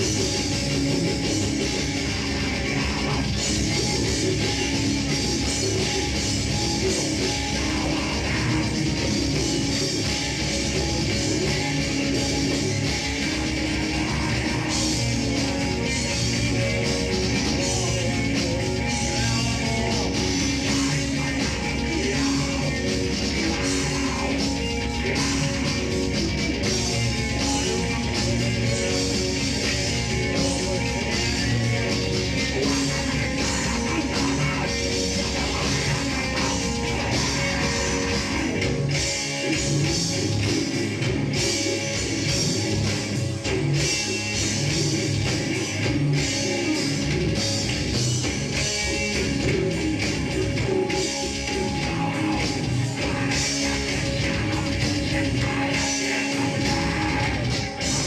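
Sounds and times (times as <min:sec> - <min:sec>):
electric guitars: 0:00.0 - 0:58.0
fast drum beat: 0:00.0 - 0:58.0.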